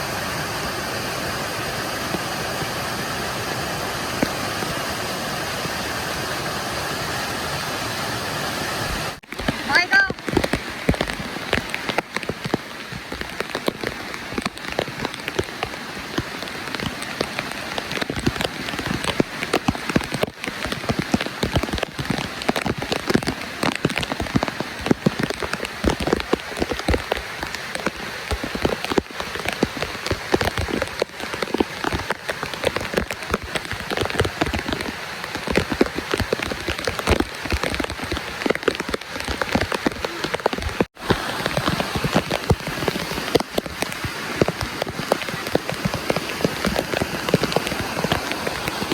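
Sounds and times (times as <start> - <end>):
falling water splashing: 0.0 - 48.9.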